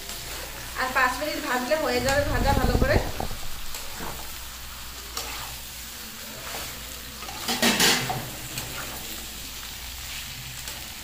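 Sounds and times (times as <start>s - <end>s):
chicken and potatoes sizzling: 0.0s - 11.0s.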